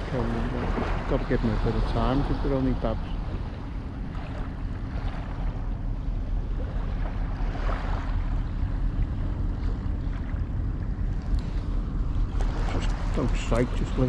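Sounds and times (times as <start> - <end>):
faint sea: 0.0 - 14.0
wind rumbling on microphone: 0.0 - 14.0.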